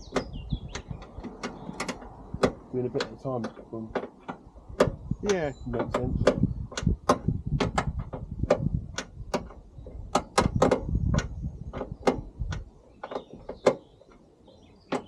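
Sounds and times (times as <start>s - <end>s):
low rumble of door handling: 0.0s - 13.7s
spanner metal clicks and knocks: 0.0s - 14.2s.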